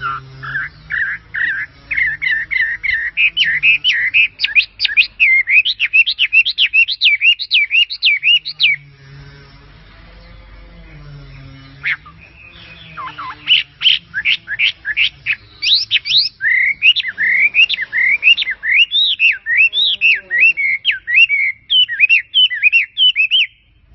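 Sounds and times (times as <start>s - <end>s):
bird chirping whistles: 0.0s - 8.8s, 11.7s - 23.8s.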